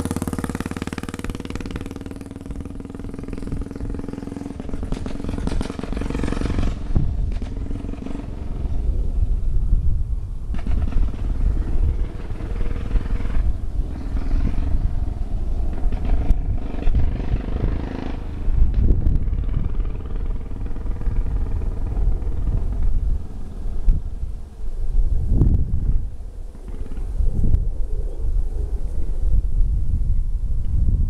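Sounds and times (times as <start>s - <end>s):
distant motorcycle engine: 0.0s - 31.0s
wind buffeting microphone: 0.0s - 31.0s.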